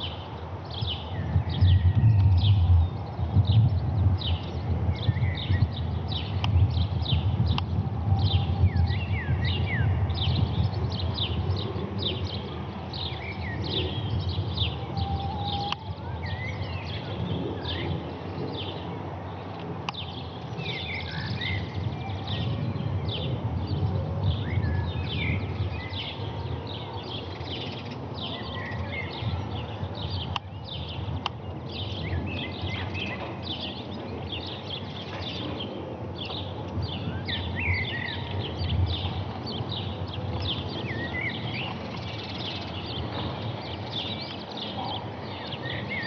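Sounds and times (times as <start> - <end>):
steady low rumble: 0.0 - 45.9
songbirds chirping and twittering: 0.0 - 46.0.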